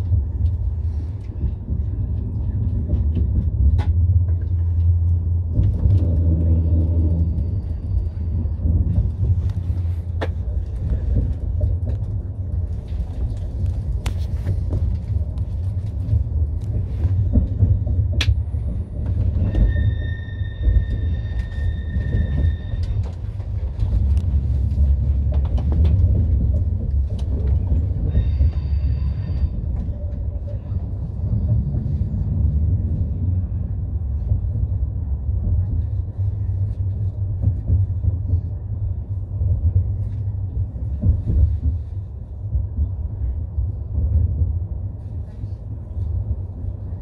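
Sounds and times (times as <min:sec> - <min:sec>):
train low rumble: 0:00.0 - 0:47.0.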